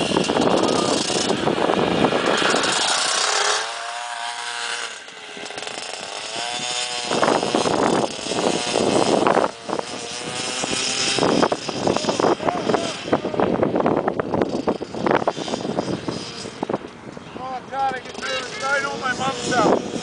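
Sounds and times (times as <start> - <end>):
dirt bike engine revving: 0.0 - 17.0, 17.6 - 20.0.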